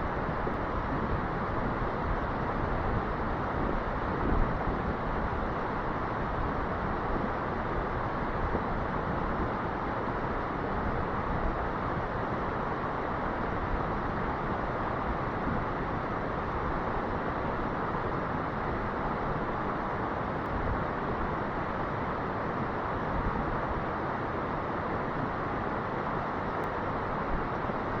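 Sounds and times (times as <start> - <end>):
creek water rushing: 5.1 - 28.0.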